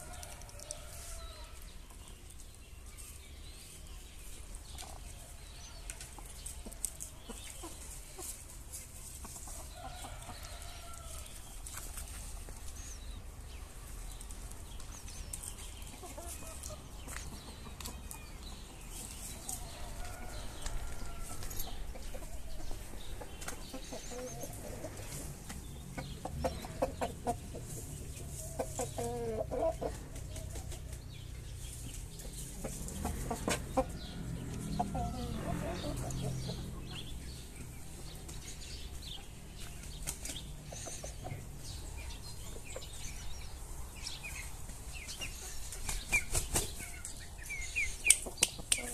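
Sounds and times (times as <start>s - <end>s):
chickens clucking and calling: 0.0s - 48.9s.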